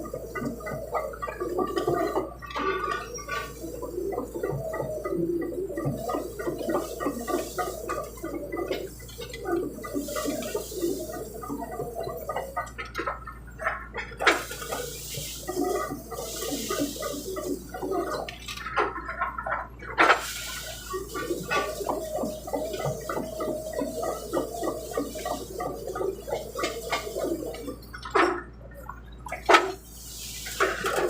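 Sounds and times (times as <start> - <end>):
excavator engine rumbling: 0.0 - 31.0.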